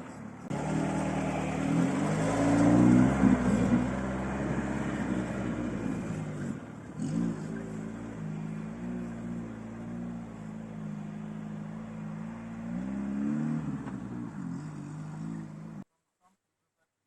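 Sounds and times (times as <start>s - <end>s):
car engine revving off-road: 0.0s - 15.8s.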